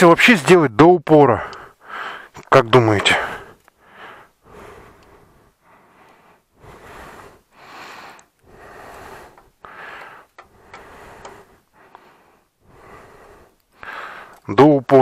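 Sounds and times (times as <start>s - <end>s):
person breathing: 1.4s - 2.4s, 3.1s - 14.5s.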